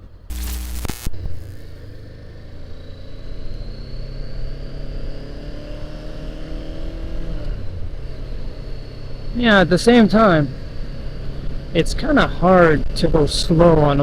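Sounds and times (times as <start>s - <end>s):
motorcycle engine accelerating: 0.0s - 11.8s.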